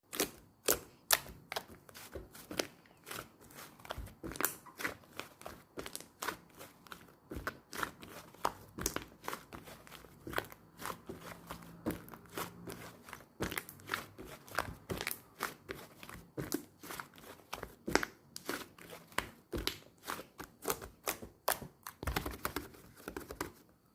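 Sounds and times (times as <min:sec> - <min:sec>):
clay slime squishing: 0:00.0 - 0:23.9.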